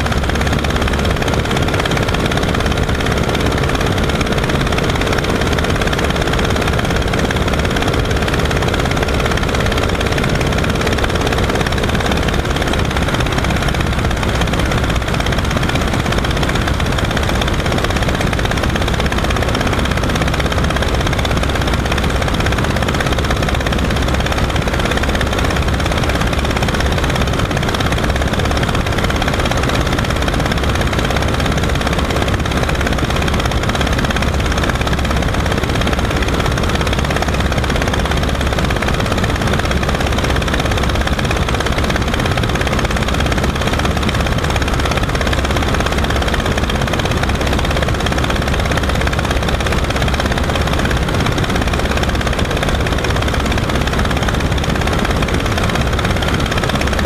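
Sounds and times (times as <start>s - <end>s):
light aircraft engine and propeller: 0.0s - 57.0s.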